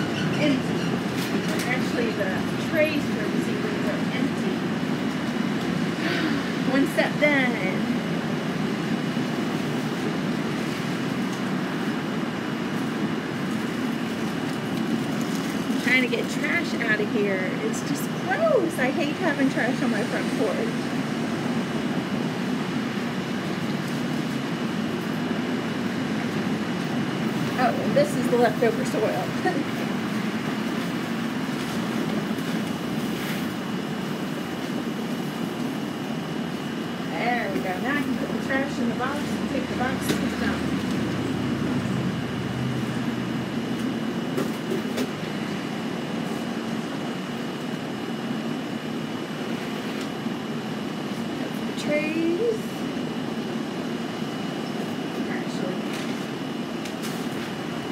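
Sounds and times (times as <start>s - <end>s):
low rumbling background noise: 0.0s - 57.9s.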